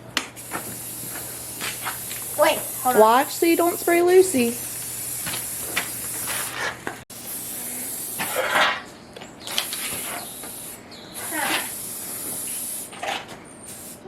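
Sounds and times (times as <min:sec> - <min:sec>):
spray paint can hissing: 0:00.4 - 0:08.6, 0:09.5 - 0:13.0, 0:13.7 - 0:14.0.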